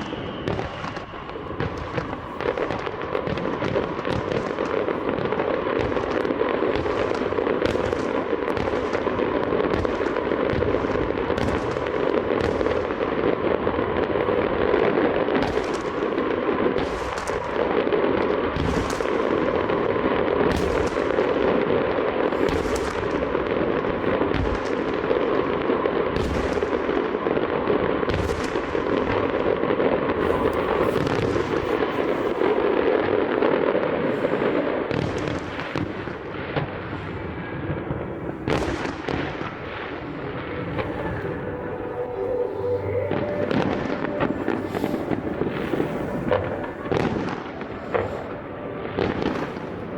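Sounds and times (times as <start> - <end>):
fireworks bangs: 0.0 - 49.9
fireworks crackling: 0.0 - 49.9.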